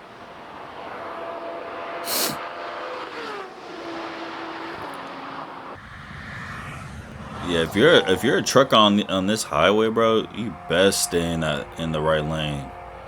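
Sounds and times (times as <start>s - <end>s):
car passing at high speed: 0.0s - 13.0s.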